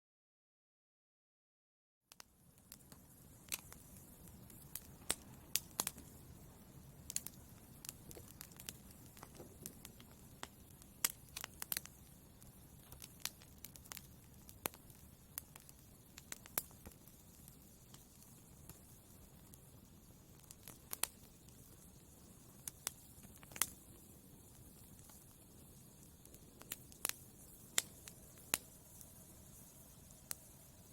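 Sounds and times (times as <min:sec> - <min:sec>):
fire crackling in fireplace: 0:02.1 - 0:30.9.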